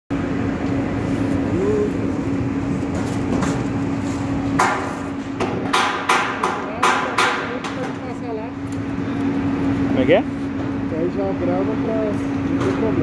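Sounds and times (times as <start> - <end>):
machine hum: 0.1 - 13.0.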